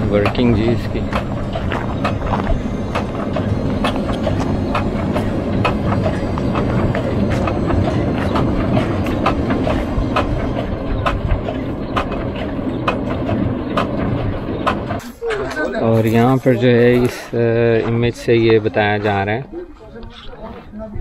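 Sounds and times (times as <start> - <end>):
machine humming: 0.0 - 18.5
even mechanical clacking: 0.0 - 19.4.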